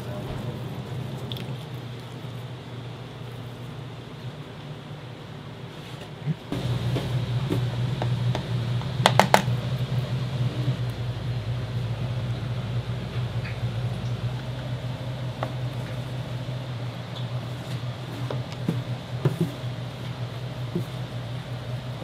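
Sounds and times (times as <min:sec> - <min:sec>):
kitchen equipment humming: 0:00.0 - 0:22.0.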